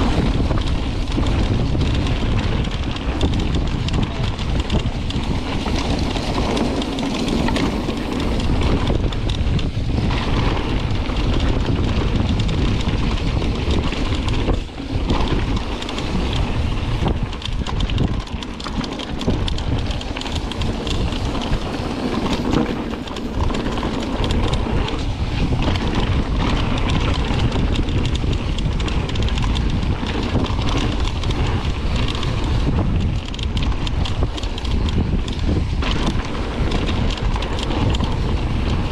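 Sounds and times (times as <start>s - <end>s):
bike rattling: 0.0s - 38.9s
tyres rolling over dirt: 0.0s - 38.9s
wind rushing over microphone: 0.0s - 38.9s.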